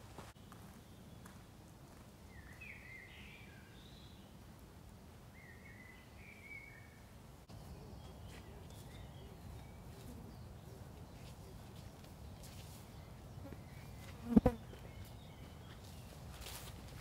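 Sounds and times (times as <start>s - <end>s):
songbird singing: 0.2s - 1.5s, 2.2s - 4.4s, 5.2s - 16.7s.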